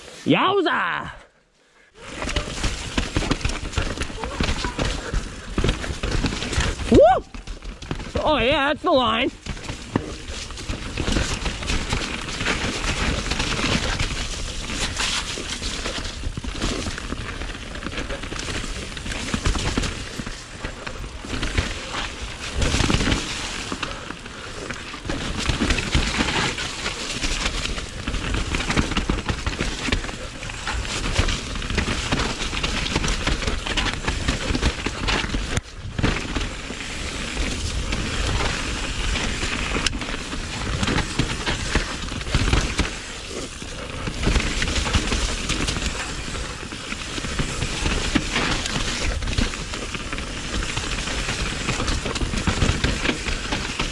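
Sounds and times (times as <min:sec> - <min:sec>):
bike tyres rattling over trail: 0:01.9 - 0:53.9.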